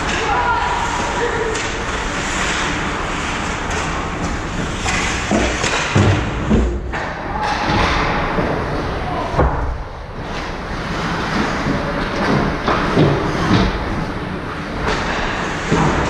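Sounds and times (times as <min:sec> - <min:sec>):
steady noisy haze: 0:00.0 - 0:16.0.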